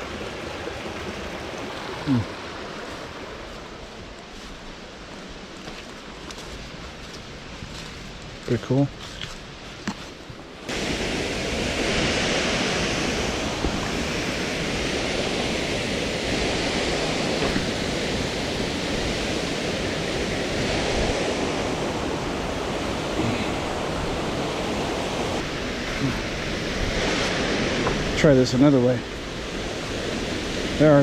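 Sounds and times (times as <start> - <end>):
waterfall roaring: 0.0 - 7.9, 10.6 - 31.0.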